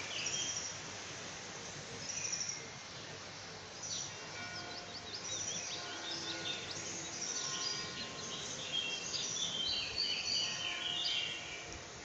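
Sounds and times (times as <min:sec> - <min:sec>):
songbirds chirping and whistling: 0:00.0 - 0:00.8, 0:02.0 - 0:11.8.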